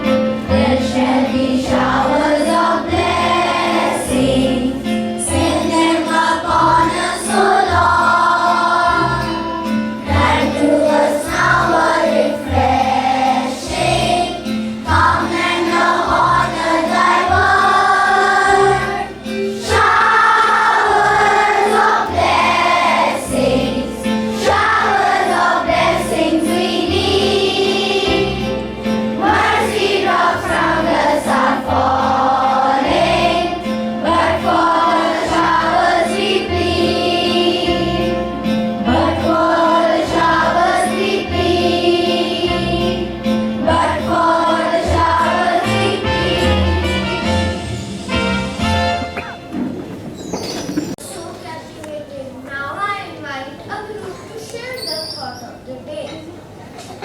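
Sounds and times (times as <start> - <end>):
children singing in chorus: 0.4 - 46.8.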